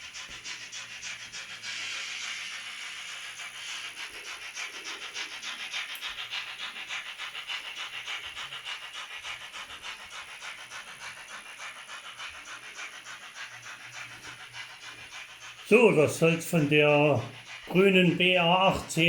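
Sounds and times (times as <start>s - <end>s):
steam locomotive chuffs from loudspeaker: 0.0s - 19.0s.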